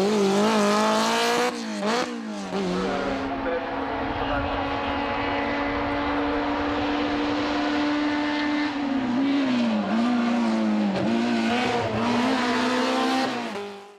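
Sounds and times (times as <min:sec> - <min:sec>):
rally car engine revving: 0:00.0 - 0:13.9.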